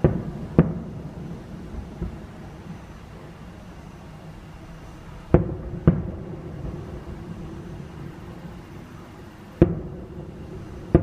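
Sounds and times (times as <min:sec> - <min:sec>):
fireworks booming with echo: 0:00.0 - 0:11.0.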